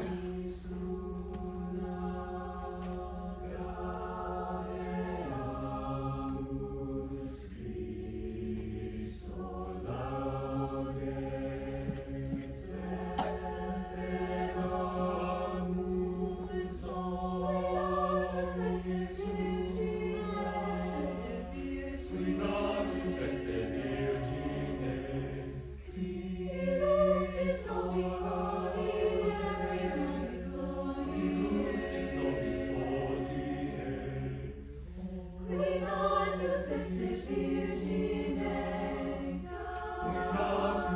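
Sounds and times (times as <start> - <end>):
choir singing held chords: 0.0 - 40.9.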